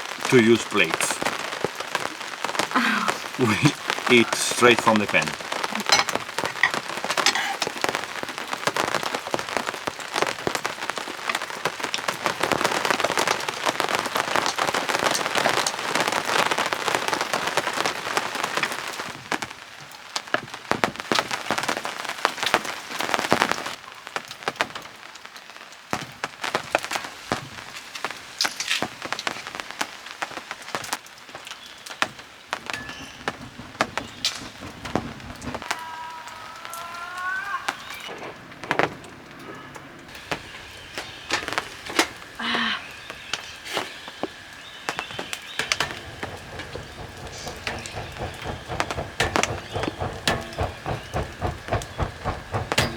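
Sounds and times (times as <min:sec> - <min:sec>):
rain falling: 0:00.0 - 0:52.9
raindrops ticking: 0:00.0 - 0:52.9.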